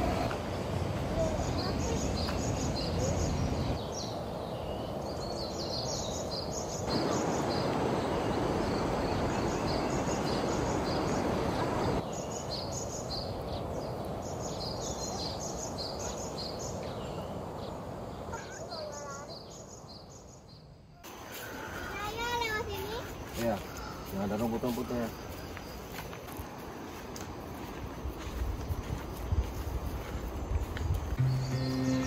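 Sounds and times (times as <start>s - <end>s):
birds chirping: 0.0s - 27.0s, 28.2s - 32.0s
outdoor hiss: 0.0s - 32.0s.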